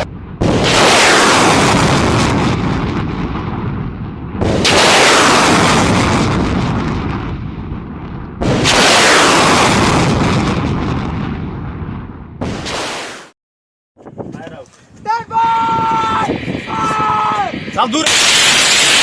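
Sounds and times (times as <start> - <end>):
rocket launch blasts and roar: 0.0 - 13.4, 15.6 - 19.0.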